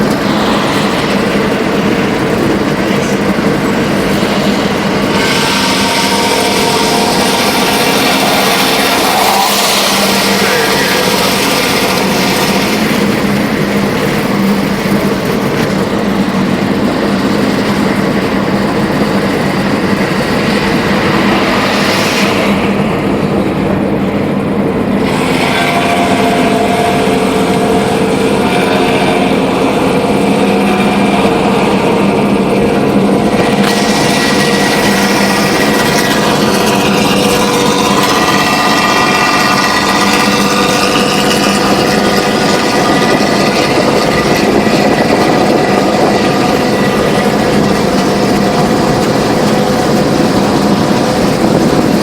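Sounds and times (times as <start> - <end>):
bus engine and exhaust running: 0.0 - 52.0.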